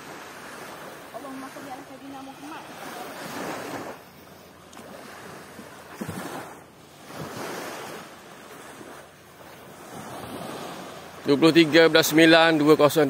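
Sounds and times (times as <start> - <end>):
water washing against shore: 0.0 - 13.0.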